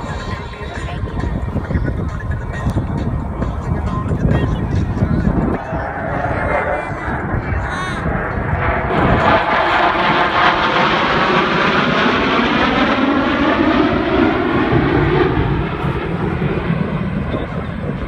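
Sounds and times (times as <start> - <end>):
jet engines flying past: 0.0 - 18.0.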